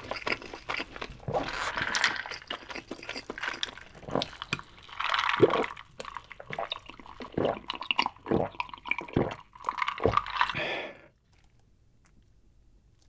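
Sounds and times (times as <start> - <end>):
liquid sloshing in a jar: 0.0 - 11.6.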